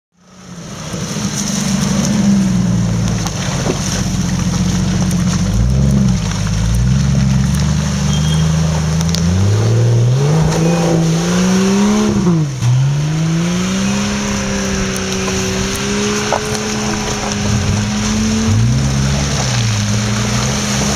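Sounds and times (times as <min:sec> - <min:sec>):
off-road engine revving: 0:00.2 - 0:20.9.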